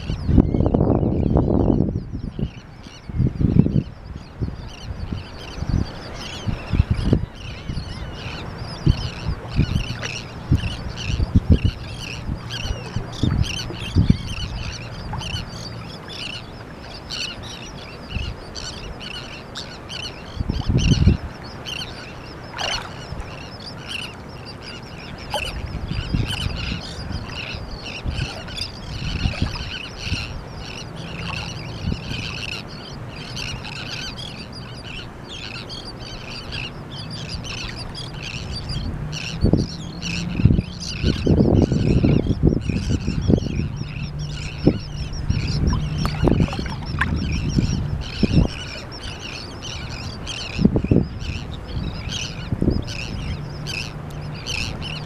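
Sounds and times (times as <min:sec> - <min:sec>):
gulls and terns calling: 0:00.0 - 0:55.0.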